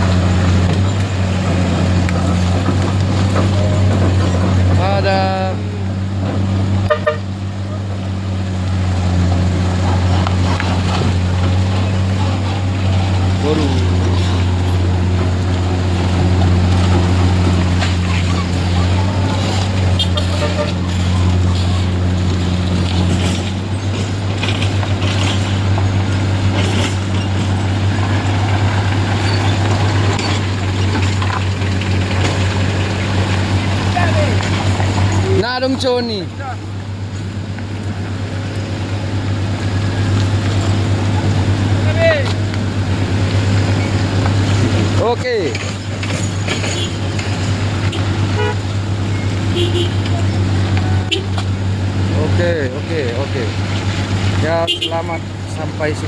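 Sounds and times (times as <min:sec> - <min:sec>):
road traffic: 0:00.0 - 0:56.0
vehicle engine droning: 0:00.0 - 0:56.0.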